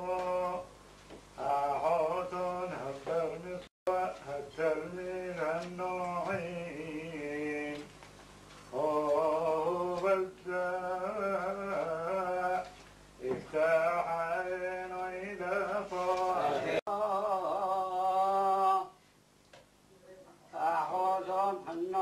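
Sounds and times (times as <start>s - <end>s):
old man singing a hymn: 0.0s - 0.7s, 1.4s - 7.9s, 8.7s - 19.0s, 20.5s - 22.0s.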